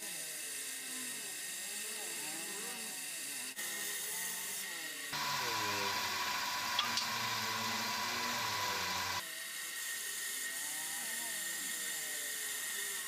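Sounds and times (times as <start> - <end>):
power tool high whine: 0.0 - 13.0.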